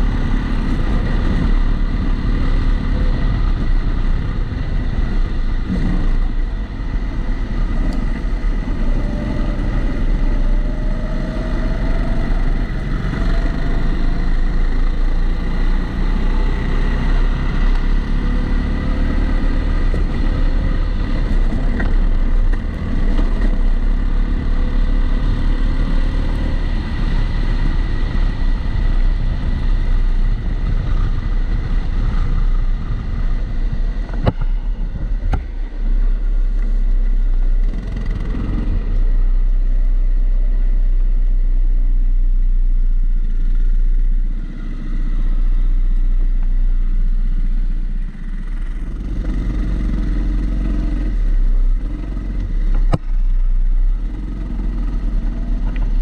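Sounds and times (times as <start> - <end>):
rushing background noise: 0.0 - 56.0.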